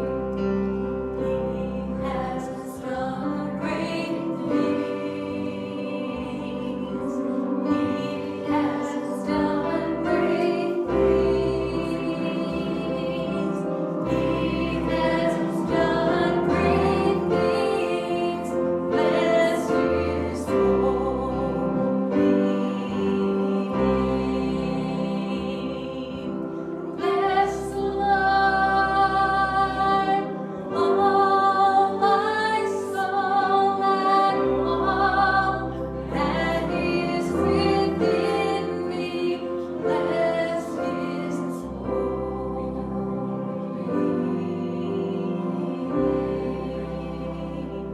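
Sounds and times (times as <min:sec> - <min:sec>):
voices singing worship song: 0:00.0 - 0:47.9.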